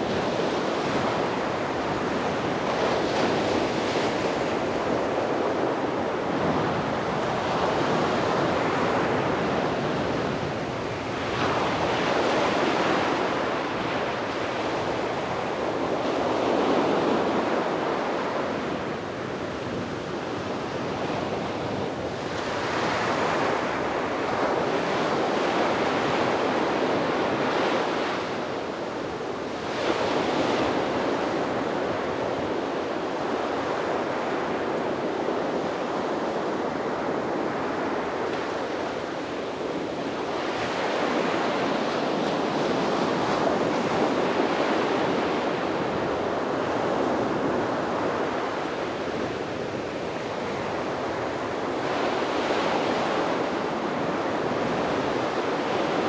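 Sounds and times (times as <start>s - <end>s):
sea waves breaking on beach: 0.0s - 56.0s
wind noise on microphone: 0.0s - 56.0s.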